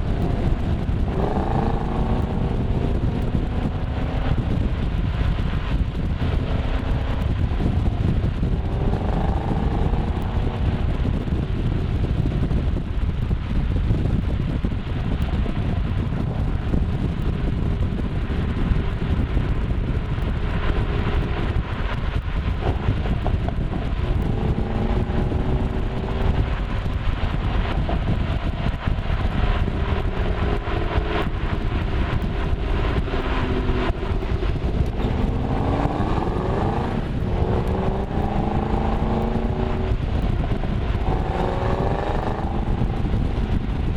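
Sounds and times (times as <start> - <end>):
car engine accelerating: 0.0 - 43.9
road and wind noise: 0.0 - 43.9.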